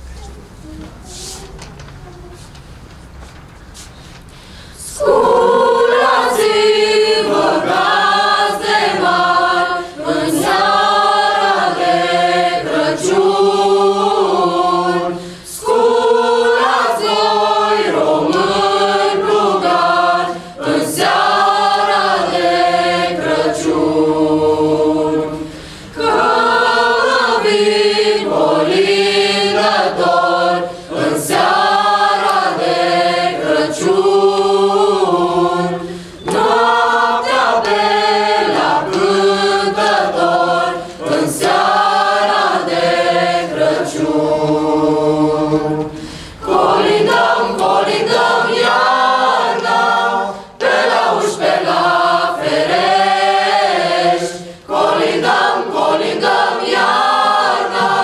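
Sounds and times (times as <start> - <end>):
choir singing unaccompanied: 4.8 - 58.0.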